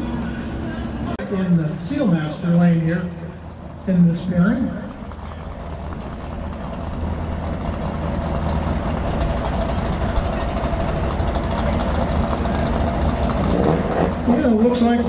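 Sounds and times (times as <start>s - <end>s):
car engines idling: 0.0s - 15.0s.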